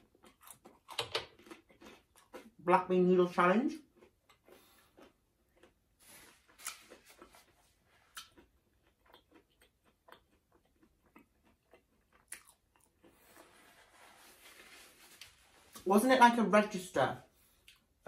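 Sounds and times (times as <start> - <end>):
person chewing food: 0.0 - 2.6, 3.8 - 15.8, 17.4 - 18.0.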